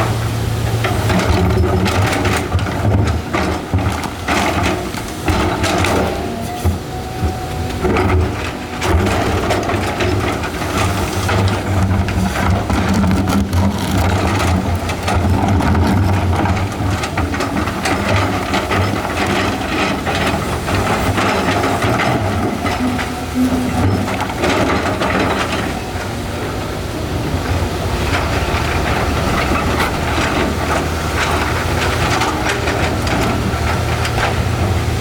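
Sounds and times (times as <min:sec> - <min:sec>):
excavator diesel engine: 0:00.0 - 0:35.0
rocks grinding and knocking: 0:00.0 - 0:35.0.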